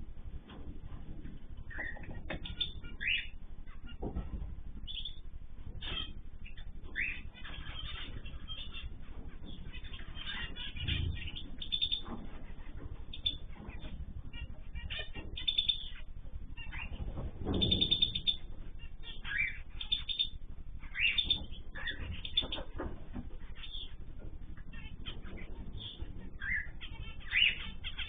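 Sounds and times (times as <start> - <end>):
low fluttering thumps: 0.0 - 28.0
small birds chirping: 0.1 - 28.0.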